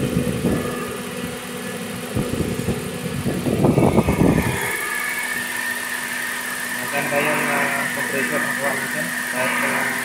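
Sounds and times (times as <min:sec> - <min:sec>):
air conditioning compressor hum: 0:00.0 - 0:10.0
car engine idling: 0:00.0 - 0:10.0.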